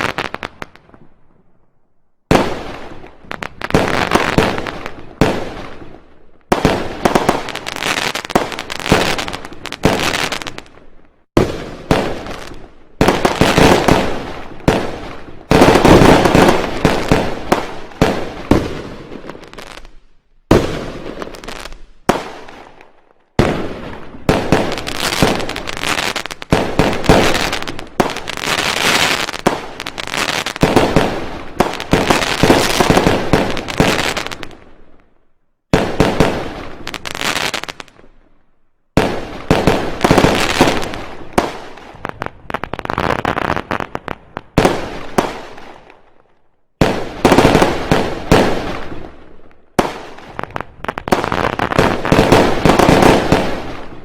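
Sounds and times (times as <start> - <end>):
fireworks bangs and crackles: 0.0 - 1.6, 2.2 - 54.0.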